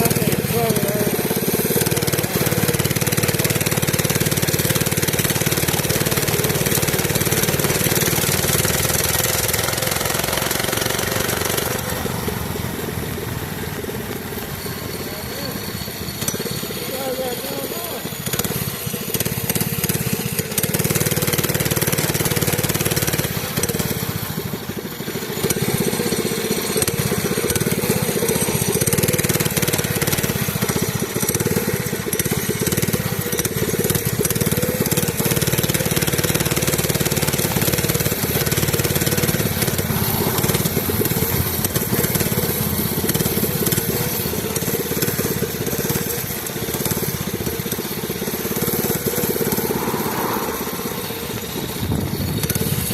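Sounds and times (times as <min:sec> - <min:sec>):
small bike engine running: 0:00.0 - 0:52.9.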